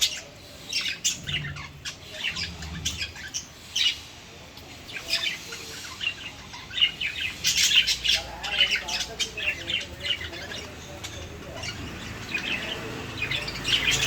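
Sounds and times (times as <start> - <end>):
lovebirds chirping: 0.0 - 14.0.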